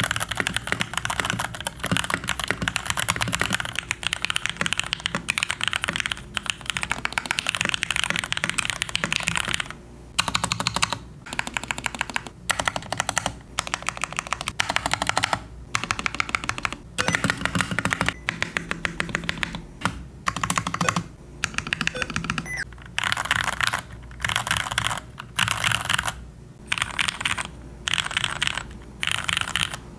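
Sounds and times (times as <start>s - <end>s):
mechanical keyboard typing: 0.0s - 29.8s.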